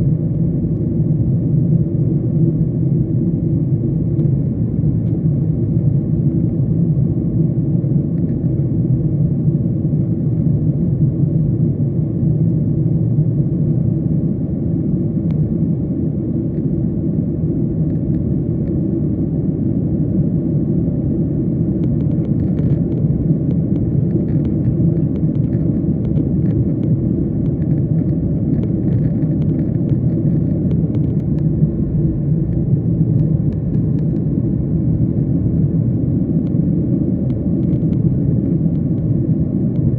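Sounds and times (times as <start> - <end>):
jet engines and rushing air: 0.0 - 39.9.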